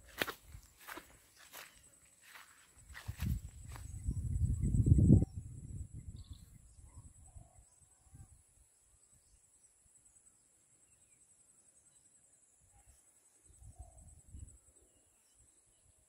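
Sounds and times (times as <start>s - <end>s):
high-pitched insect trill: 0.1s - 16.0s.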